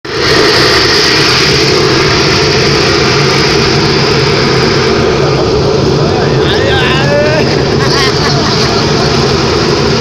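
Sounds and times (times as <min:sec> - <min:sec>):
industrial vessel venting gas: 0:00.0 - 0:10.0.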